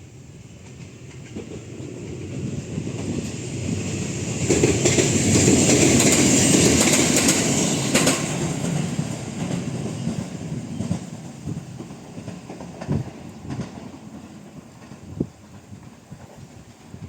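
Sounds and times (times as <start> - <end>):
train wheels clattering over rail joints: 0.6 - 17.0.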